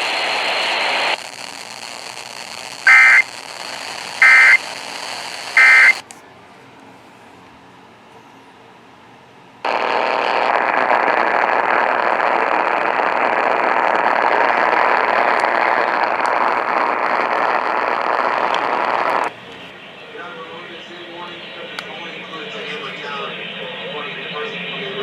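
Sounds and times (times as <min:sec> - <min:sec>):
radio static hiss: 0:00.0 - 0:06.1, 0:09.6 - 0:25.0.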